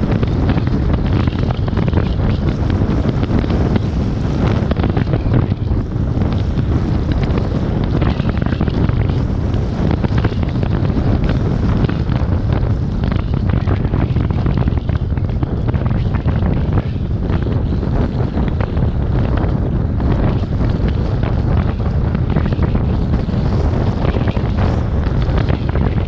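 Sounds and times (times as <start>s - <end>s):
heavy wind buffeting microphone: 0.0s - 26.0s.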